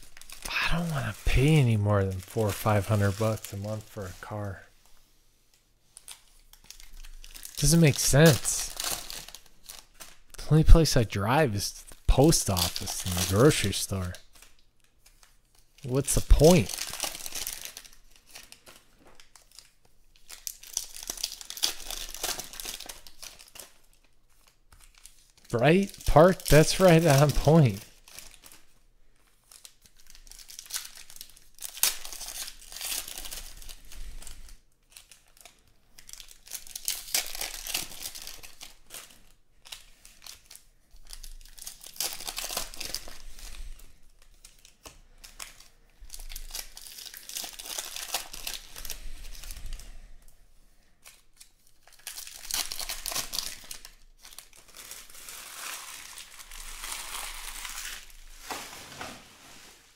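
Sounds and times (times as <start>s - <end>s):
foil wrappers tearing and crinkling: 0.0s - 4.5s, 6.0s - 10.4s, 11.9s - 50.0s, 51.0s - 59.8s.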